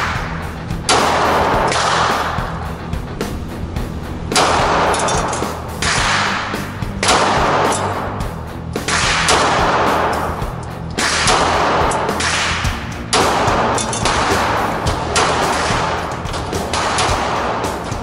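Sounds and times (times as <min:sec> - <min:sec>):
rock background music: 0:00.0 - 0:18.0
handgun shots echoing indoors: 0:00.8 - 0:02.6, 0:04.3 - 0:08.2, 0:08.8 - 0:18.0.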